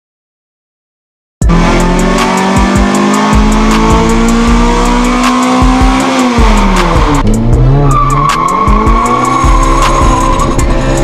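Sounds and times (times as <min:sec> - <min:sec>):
car engine revving: 0:01.5 - 0:11.0.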